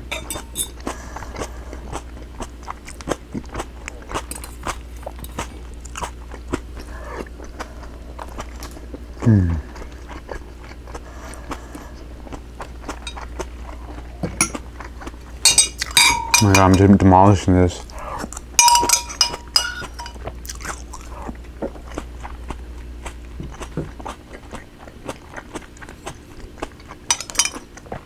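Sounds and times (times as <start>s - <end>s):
chewing and biting: 0.8s - 16.0s, 20.4s - 28.0s.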